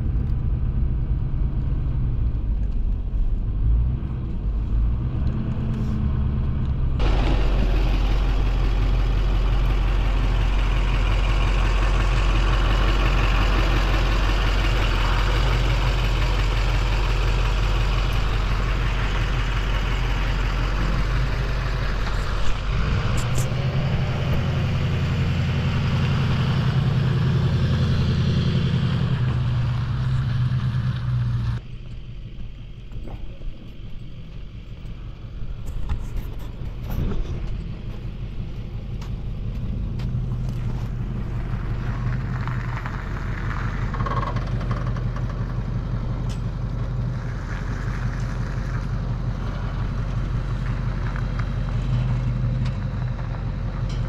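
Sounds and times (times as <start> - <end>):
truck engine drone: 0.0 - 54.0
tyres on gravel road: 0.0 - 54.0.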